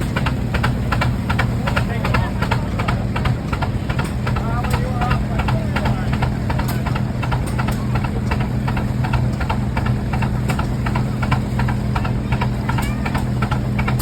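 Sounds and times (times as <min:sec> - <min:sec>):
tractor engines running: 0:00.0 - 0:14.0.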